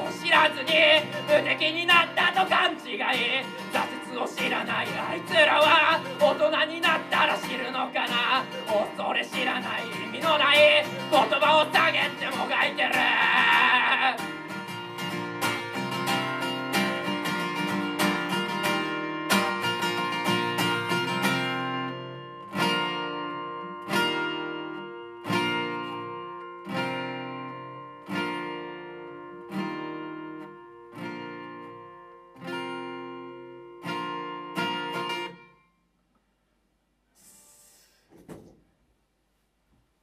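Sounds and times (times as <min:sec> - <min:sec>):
acoustic guitar strumming: 0:00.0 - 0:35.8.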